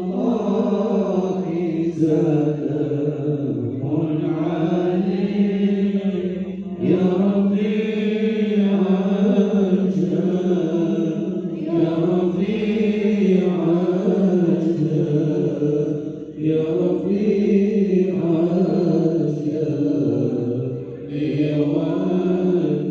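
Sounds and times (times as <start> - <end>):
man chanting: 0.0 - 22.9.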